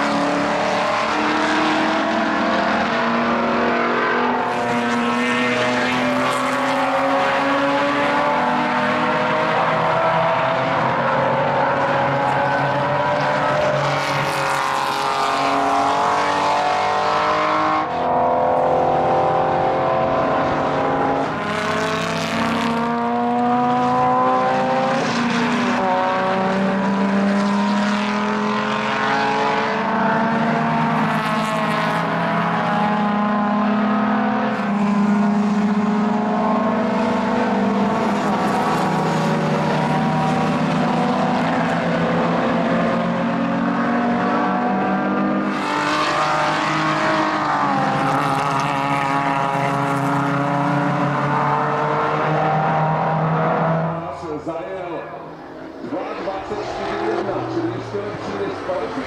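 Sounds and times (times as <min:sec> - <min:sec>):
racing car engines accelerating: 0:00.0 - 0:59.0.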